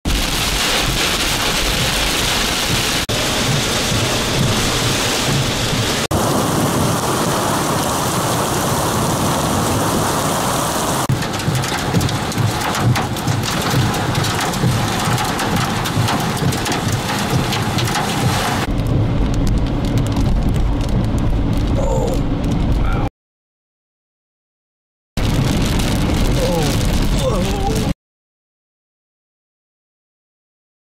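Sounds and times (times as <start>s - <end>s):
heavy rain pelting a vehicle: 0.1s - 23.1s, 25.2s - 28.0s
low rumble: 0.1s - 23.1s, 25.2s - 28.0s.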